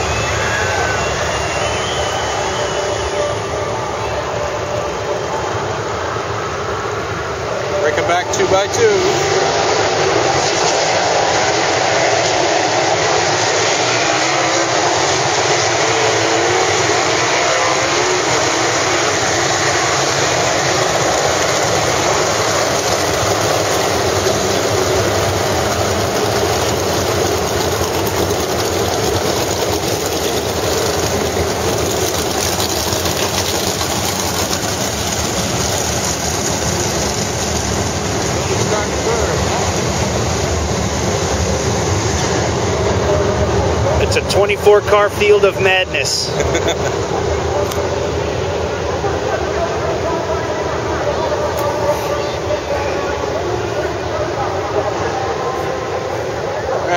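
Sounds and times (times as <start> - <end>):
race car engines running together: 0.0 - 56.9.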